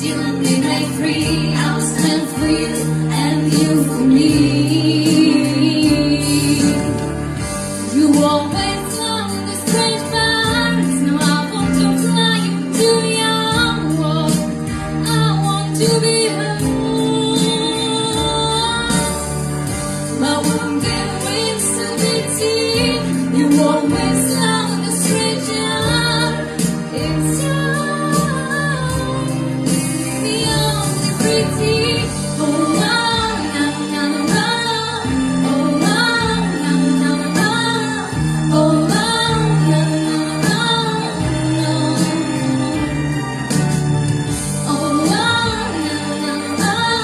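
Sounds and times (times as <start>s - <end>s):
instrumental backing: 0.0s - 47.0s.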